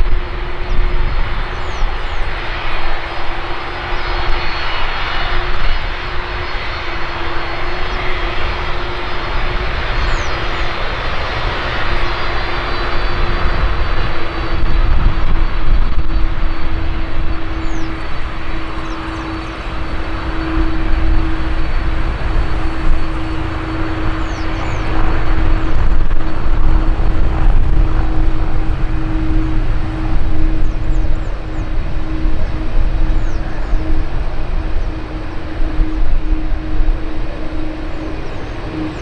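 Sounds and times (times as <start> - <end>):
high engine whine: 0.0 - 39.0
jet engines roaring: 0.0 - 39.0.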